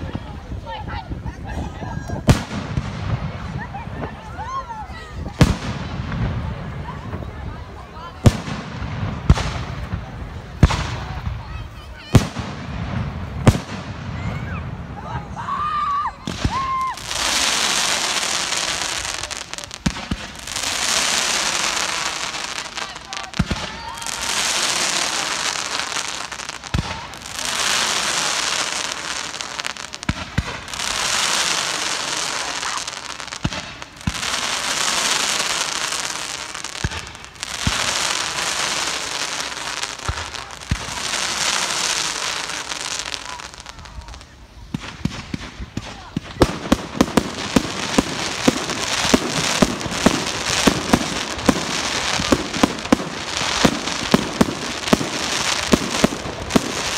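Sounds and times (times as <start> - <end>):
firework crackling: 0.0 - 56.9
firework bangs: 2.1 - 56.9.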